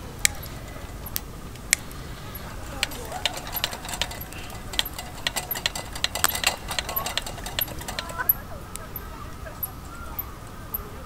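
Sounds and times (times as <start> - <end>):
sharp clicks and snaps: 0.0 - 10.8.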